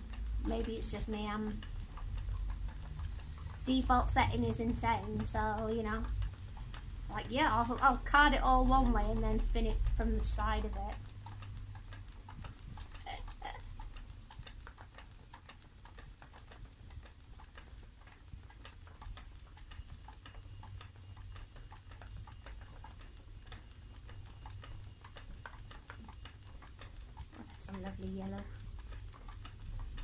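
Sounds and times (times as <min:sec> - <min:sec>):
spinning wheel ticking and clicking: 0:00.0 - 0:30.0.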